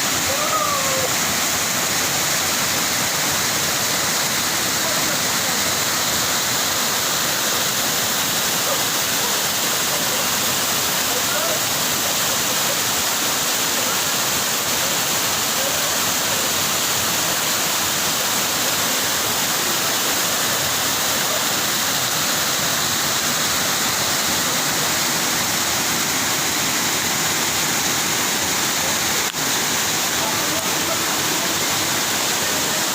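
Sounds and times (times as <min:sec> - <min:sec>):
rushing white water: 0:00.0 - 0:32.9.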